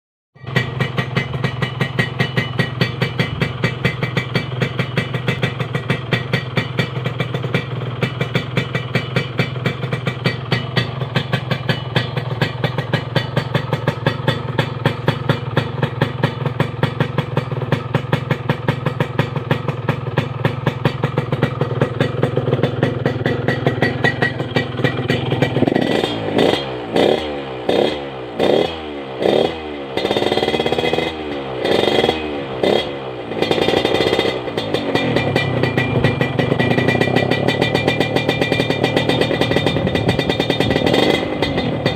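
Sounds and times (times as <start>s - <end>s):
motorcycle engine revving: 0.4s - 41.9s
two-stroke motorcycle engine idling: 0.4s - 41.9s.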